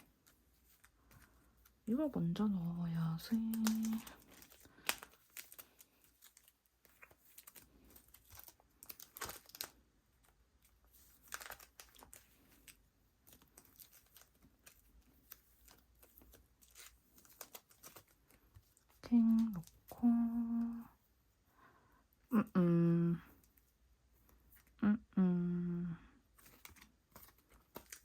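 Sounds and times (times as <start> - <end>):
cards and plastic sleeves rustling: 0.0 - 21.5, 23.2 - 24.8, 26.2 - 28.0.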